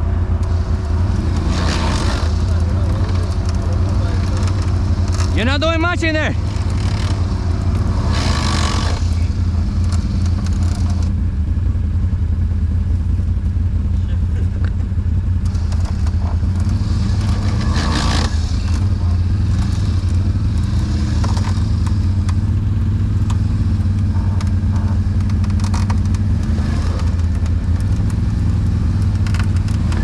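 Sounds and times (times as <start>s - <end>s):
atv engine idling: 0.0s - 30.0s.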